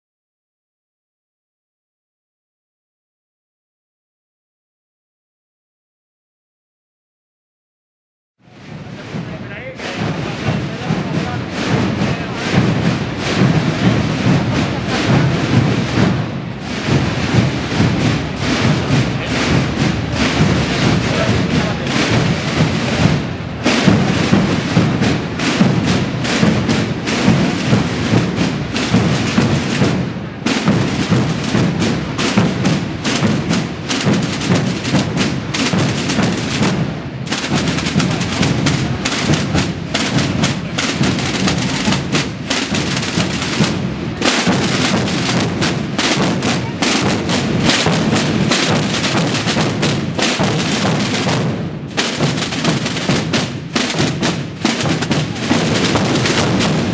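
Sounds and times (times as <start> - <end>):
massed procession drums beating: 8.4 - 56.9.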